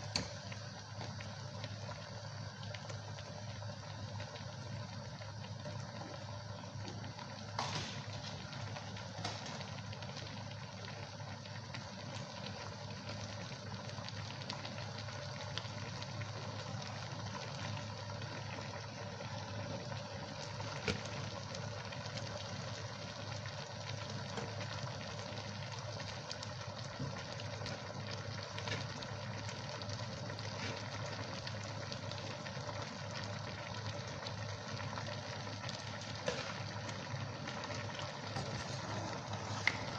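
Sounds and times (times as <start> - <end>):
constant hiss: 0.0 - 39.9
low mechanical hum: 0.0 - 39.9.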